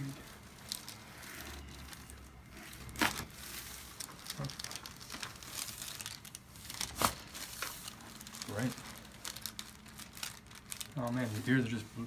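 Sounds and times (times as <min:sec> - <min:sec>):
light crinkling: 0:00.0 - 0:12.0.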